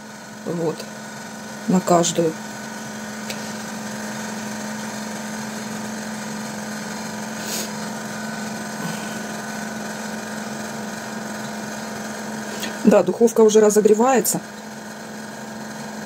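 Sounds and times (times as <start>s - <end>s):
oven convection fan hum: 0.0s - 16.0s.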